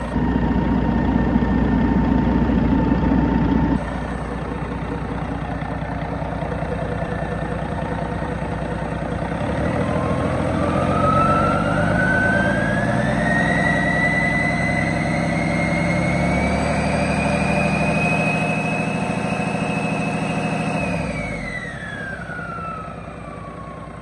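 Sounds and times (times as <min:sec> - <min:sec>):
diesel engine revving: 0:00.0 - 0:24.0
engine whine: 0:00.0 - 0:24.0.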